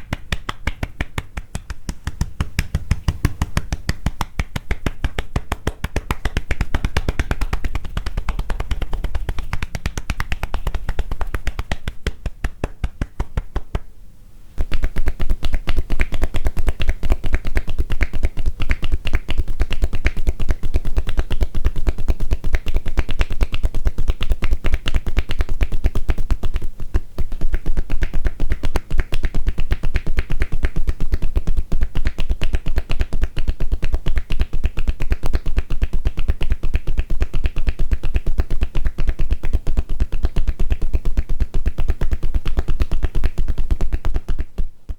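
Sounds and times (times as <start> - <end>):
hands tapping on body: 0.0 - 13.9, 14.6 - 44.9.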